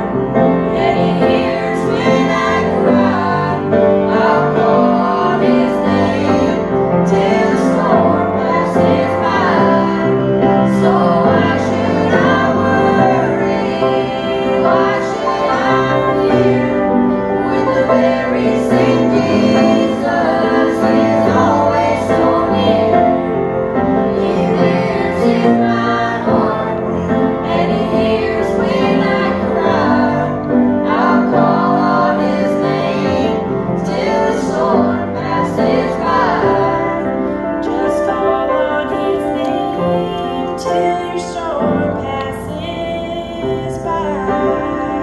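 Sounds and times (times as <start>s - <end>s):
children singing together: 0.0s - 45.0s
grand piano accompaniment: 0.0s - 45.0s.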